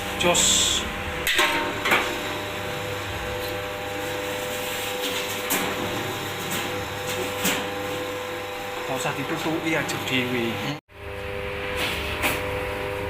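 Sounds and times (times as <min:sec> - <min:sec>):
machine humming and whining: 0:00.0 - 0:13.0.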